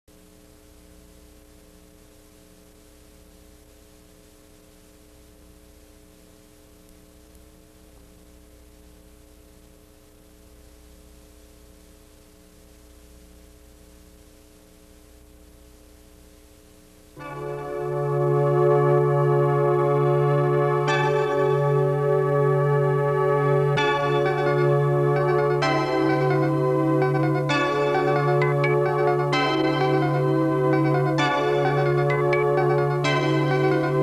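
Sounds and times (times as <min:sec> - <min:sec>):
faint steady hiss: 0:00.1 - 0:34.0
low electrical hum: 0:00.1 - 0:34.0.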